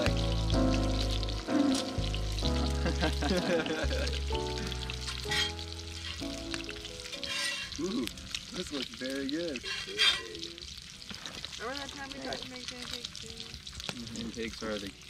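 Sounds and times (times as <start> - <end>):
background music: 0.0 - 12.5
food sizzling in a skillet: 0.0 - 15.0.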